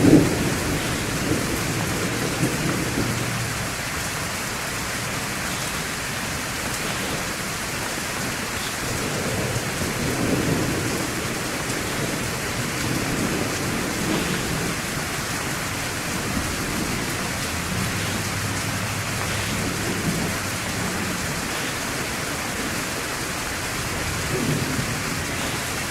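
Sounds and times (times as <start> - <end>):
steady rain: 0.0 - 25.9
thunder rumbling: 0.0 - 25.9.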